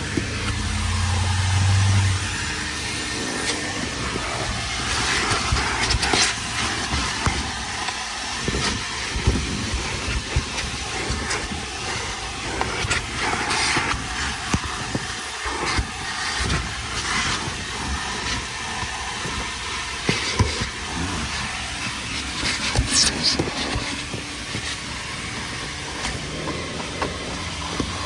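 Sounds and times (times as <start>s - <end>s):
vacuum hose rushing: 0.0s - 28.0s.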